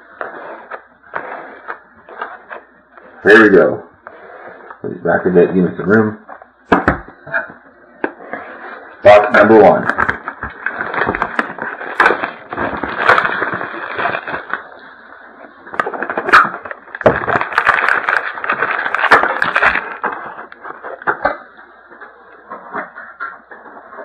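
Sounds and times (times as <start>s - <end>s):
plastic wrap and cardboard crinkling: 0.0s - 24.0s.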